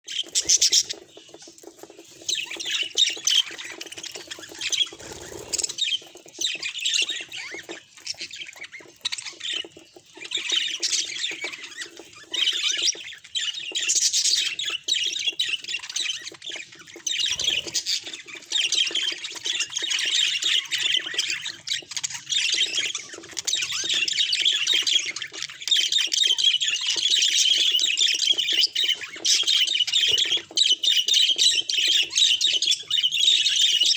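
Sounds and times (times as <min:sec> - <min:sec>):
budgerigars chattering and squawking: 0:00.1 - 0:33.9.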